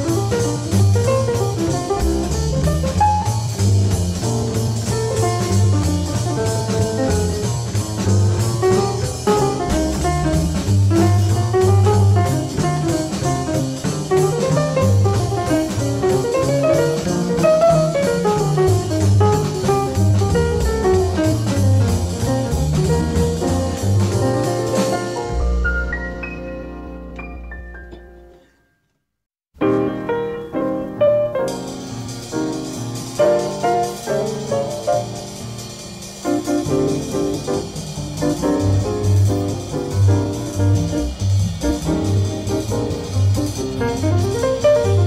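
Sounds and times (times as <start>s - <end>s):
drum kit: 0.0s - 28.3s, 29.6s - 45.0s
jazz music: 0.0s - 28.4s, 29.6s - 45.0s
guitar: 0.0s - 28.8s, 29.6s - 45.0s.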